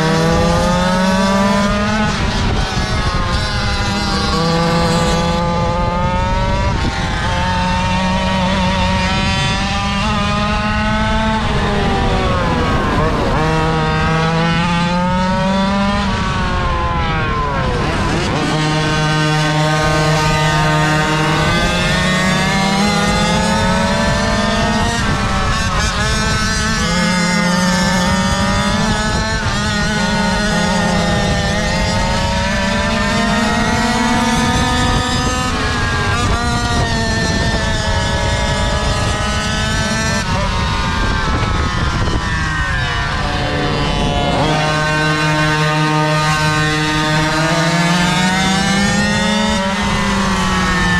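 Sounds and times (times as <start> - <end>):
small two-stroke engines: 0.0 - 50.9.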